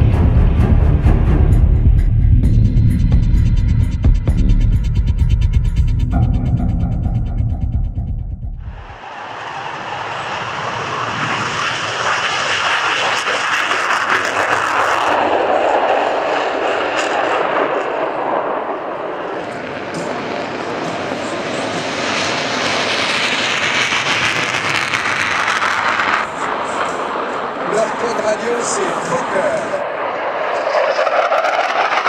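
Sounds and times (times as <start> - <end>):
jet engines roaring: 0.0 - 4.1, 8.6 - 32.0.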